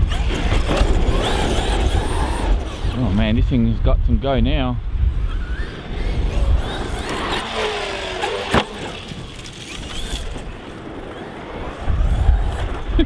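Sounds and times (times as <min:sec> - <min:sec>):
electric motor whining: 0:00.0 - 0:13.0
wind rumble on microphone: 0:00.0 - 0:13.0.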